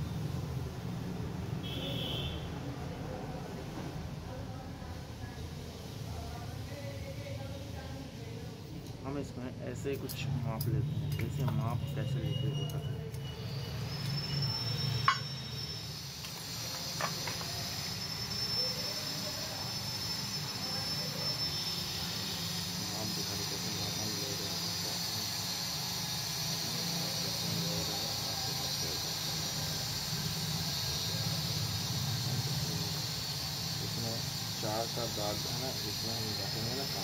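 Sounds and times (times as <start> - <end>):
faint high whine: 0.0 - 37.0.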